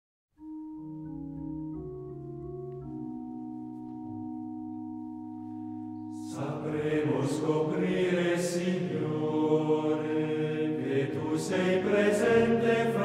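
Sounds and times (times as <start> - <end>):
slow instrumental chords: 0.4 - 13.0.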